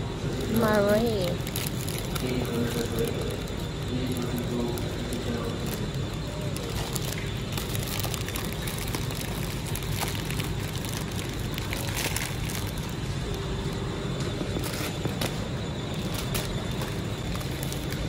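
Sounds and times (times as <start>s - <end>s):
steady low rumble: 0.0s - 18.0s
plastic wrappers crinkling: 0.3s - 18.0s.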